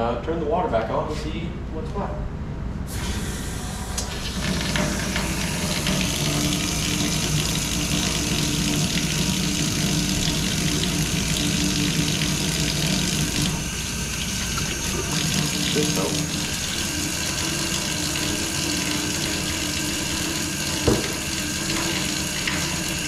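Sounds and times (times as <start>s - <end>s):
faucet water running into sink: 2.9s - 23.0s.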